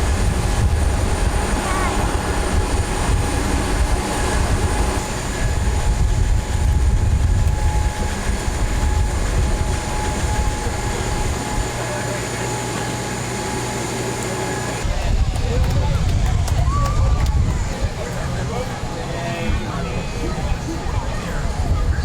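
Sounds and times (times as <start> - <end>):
high machinery whine: 0.0 - 22.0
low machinery rumble: 0.0 - 22.0.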